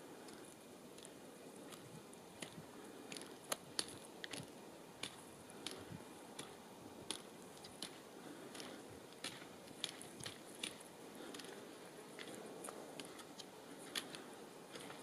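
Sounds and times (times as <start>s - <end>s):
squirrel chewing clicks: 0.2s - 15.0s.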